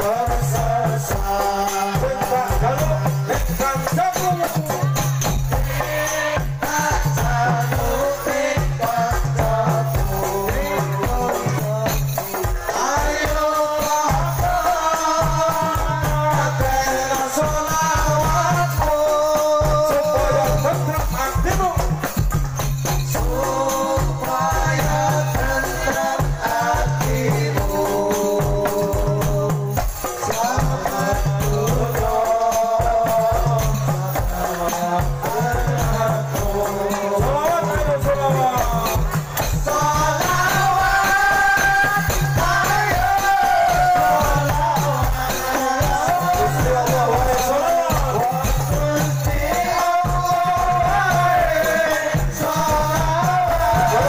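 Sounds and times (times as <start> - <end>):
devotional singing: 0.0 - 54.0
frame drums and jingles: 0.0 - 54.0.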